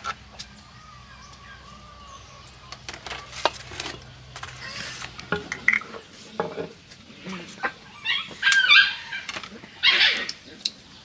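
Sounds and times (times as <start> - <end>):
chickens clucking: 0.0 - 10.8.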